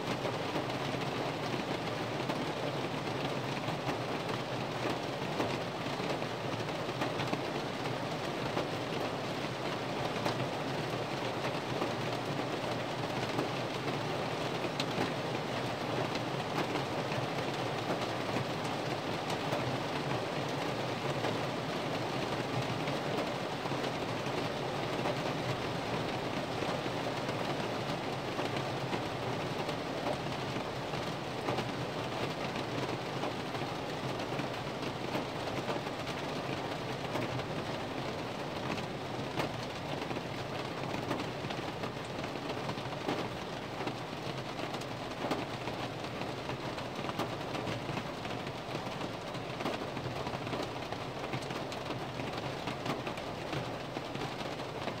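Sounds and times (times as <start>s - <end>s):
heavy rain on a car: 0.0s - 55.0s.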